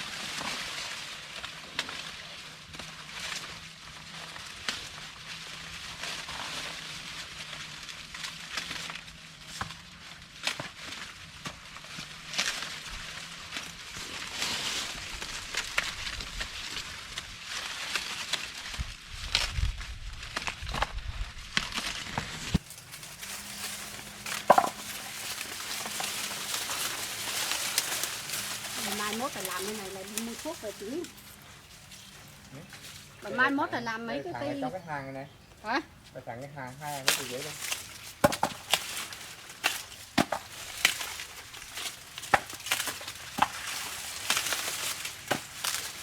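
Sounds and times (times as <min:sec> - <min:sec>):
dry corn plants snapping: 0:00.0 - 0:33.6, 0:36.6 - 0:46.0.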